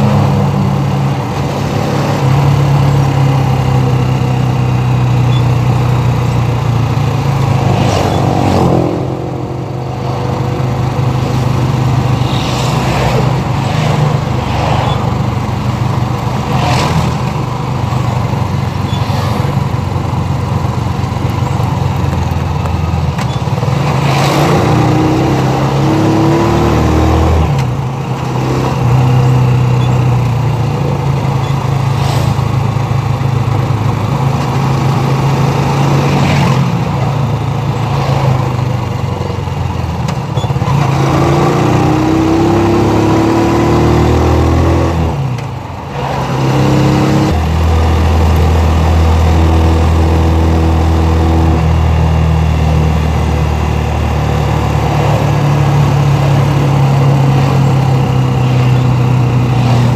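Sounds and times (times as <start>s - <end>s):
motorcycle engine running: 0.0s - 24.0s, 27.2s - 59.9s.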